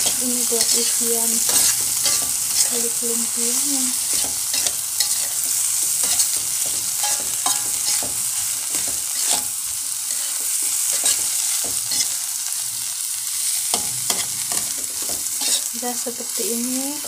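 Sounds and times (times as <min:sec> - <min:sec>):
spatula scraping a wok: 0:00.0 - 0:16.1
egg sizzling in oil: 0:00.0 - 0:17.0.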